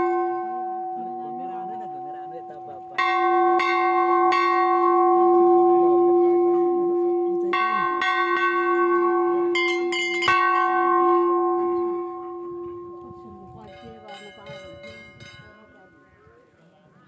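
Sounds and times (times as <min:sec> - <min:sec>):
metal temple bells ringing: 0:00.0 - 0:16.2.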